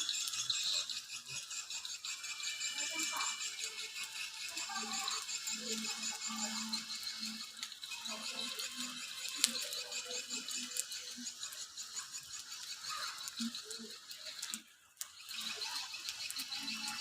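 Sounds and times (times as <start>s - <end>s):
swiftlets chirping: 0.0s - 17.0s.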